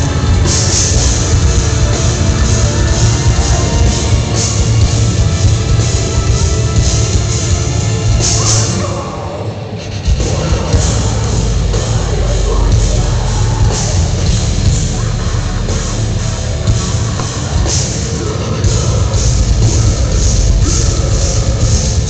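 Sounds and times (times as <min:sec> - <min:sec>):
heavy rock band playing: 0:00.0 - 0:22.0.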